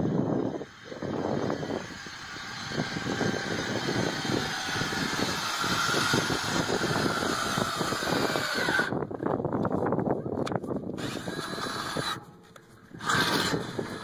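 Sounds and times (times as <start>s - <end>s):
motor high whine: 0.0s - 9.1s, 11.0s - 14.0s.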